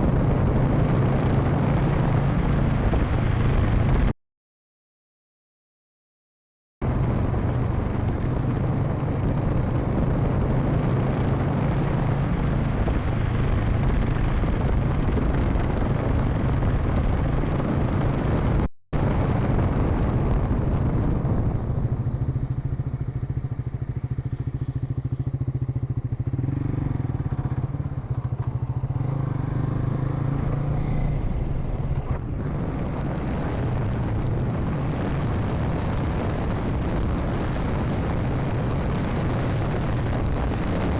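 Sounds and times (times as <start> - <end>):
road and wind noise: 0.0 - 4.2, 6.8 - 40.9
motorcycle engine running: 6.8 - 40.9.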